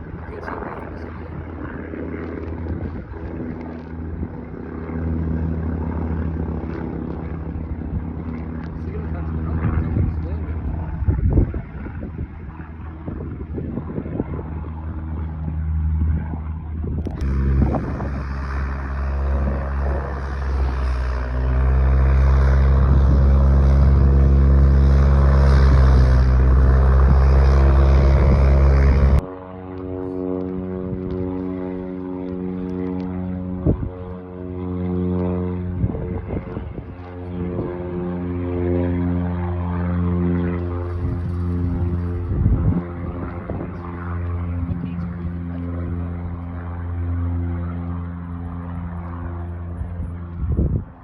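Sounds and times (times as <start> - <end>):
propeller airplane engine: 0.0 - 51.0.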